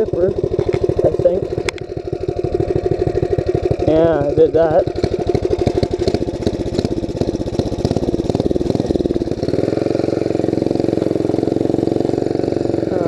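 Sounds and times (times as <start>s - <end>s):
mini bike engine: 0.0s - 13.0s.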